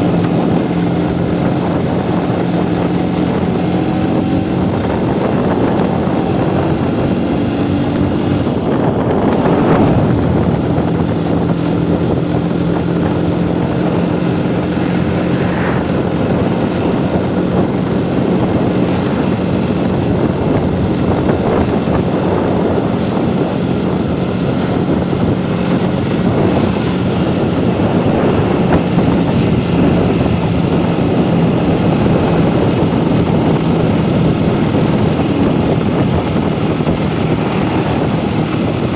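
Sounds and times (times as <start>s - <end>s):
heavy wind noise: 0.0s - 38.9s
motorcycle engine running: 0.0s - 38.9s.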